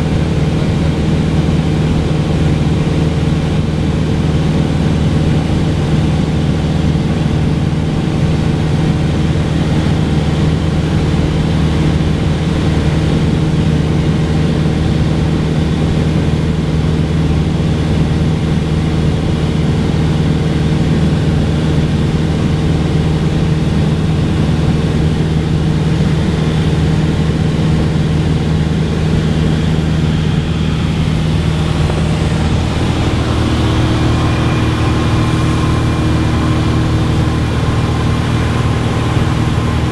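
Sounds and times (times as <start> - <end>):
propeller plane engine running: 0.0 - 39.9.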